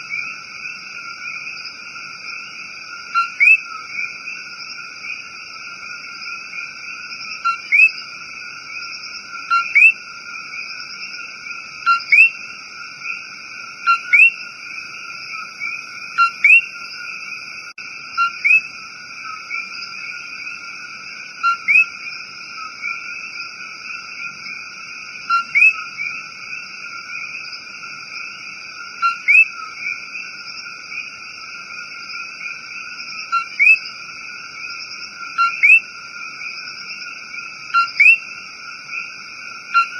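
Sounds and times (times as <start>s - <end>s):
frog chorus: 0.0s - 39.9s.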